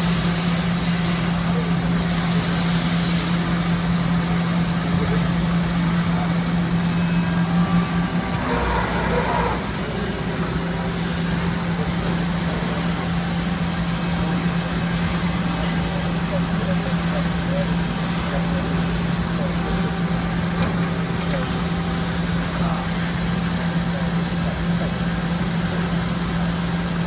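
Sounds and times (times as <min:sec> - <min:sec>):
hydraulic pump humming: 0:00.0 - 0:27.0.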